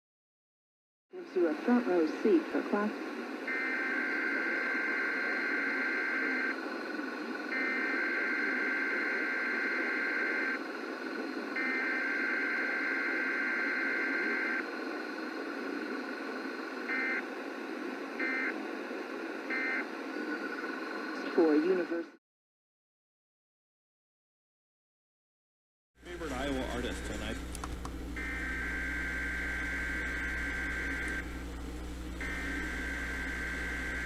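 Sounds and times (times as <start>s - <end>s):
steady radio hiss: 1.2s - 22.2s, 26.0s - 34.0s.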